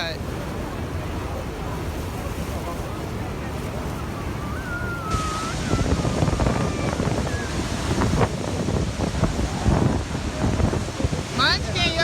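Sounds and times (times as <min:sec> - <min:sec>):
waterfall rushing: 0:00.0 - 0:12.0
wind buffeting microphone: 0:00.0 - 0:12.0.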